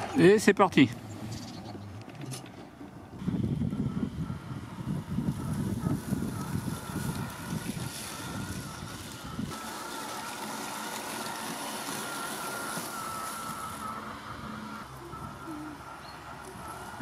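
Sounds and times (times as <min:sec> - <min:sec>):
robot lawn mower whining: 0:00.0 - 0:17.0.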